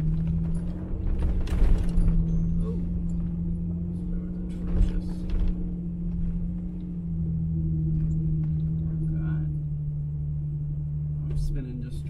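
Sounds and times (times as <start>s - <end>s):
truck engine at high revs: 0.0s - 12.0s.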